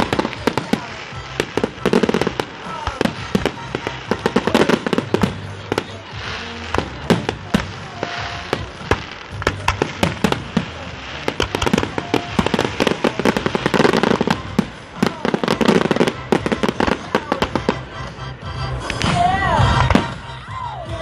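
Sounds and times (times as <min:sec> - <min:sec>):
fireworks bursting bangs: 0:00.0 - 0:18.2, 0:18.8 - 0:20.3.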